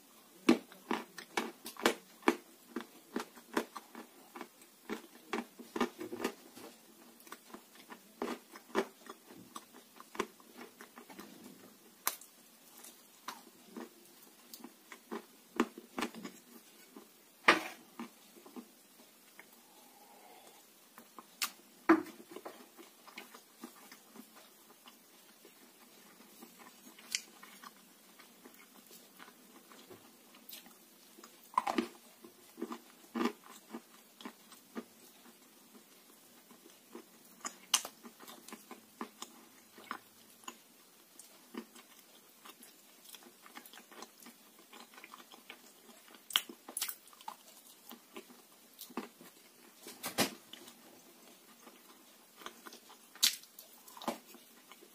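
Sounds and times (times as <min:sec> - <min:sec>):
person chewing crunchy food: 0:00.4 - 0:49.8, 0:50.5 - 0:54.9.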